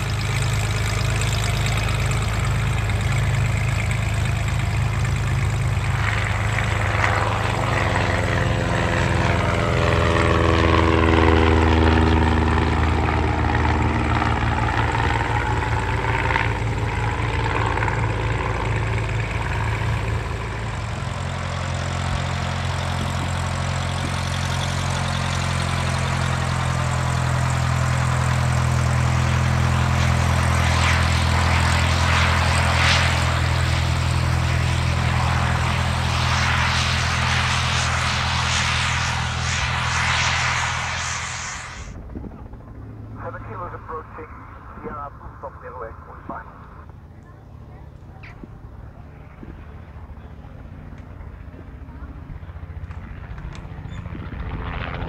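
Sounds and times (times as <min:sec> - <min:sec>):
light aircraft engines idling: 0:00.0 - 0:55.0.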